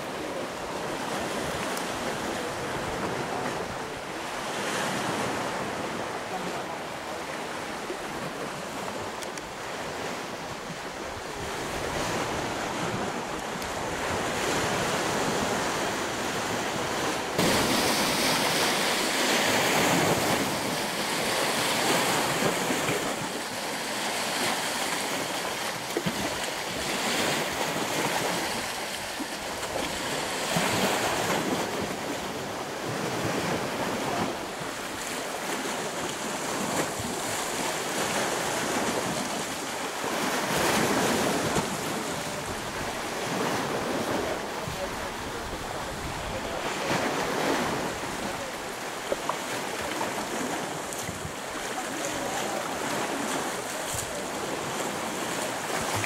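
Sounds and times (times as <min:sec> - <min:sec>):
waves washing over stones: 0:00.0 - 0:56.0.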